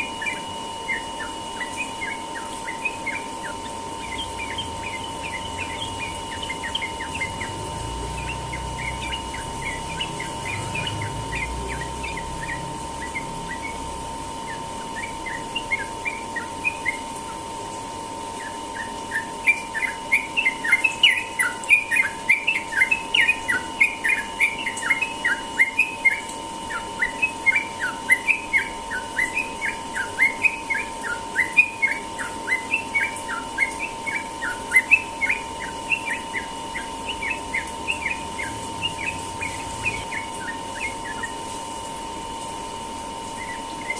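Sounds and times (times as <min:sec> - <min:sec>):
bird singing chirpy notes: 0:00.0 - 0:43.9.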